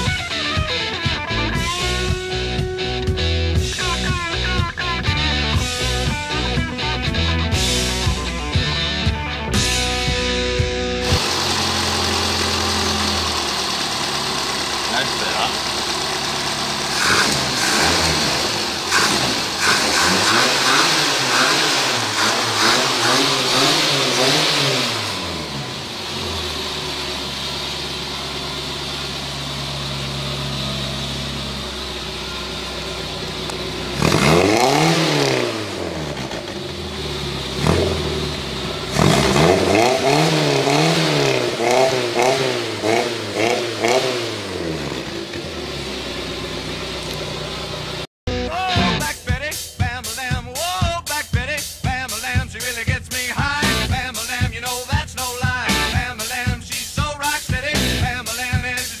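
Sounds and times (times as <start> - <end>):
car engine revving and idling: 0.0 - 48.1, 52.7 - 58.9.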